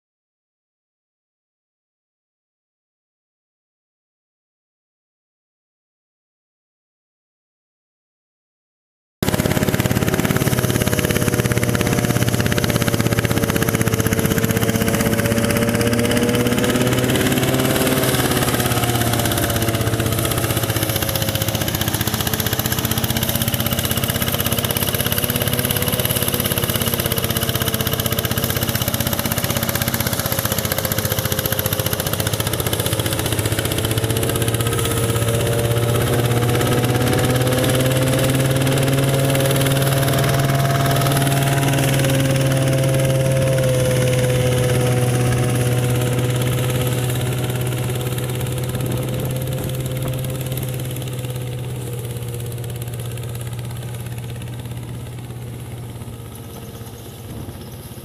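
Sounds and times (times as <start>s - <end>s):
small engine humming and whining: 9.2s - 58.0s.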